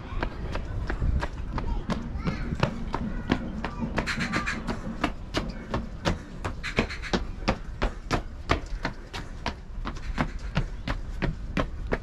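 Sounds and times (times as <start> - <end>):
running footsteps on path: 0.0 - 12.0.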